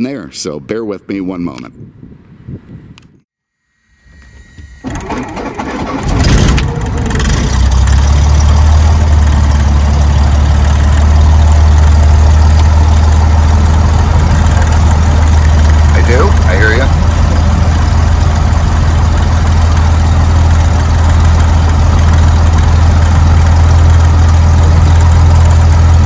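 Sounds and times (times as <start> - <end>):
aircraft engine starting and running: 3.0 - 26.0.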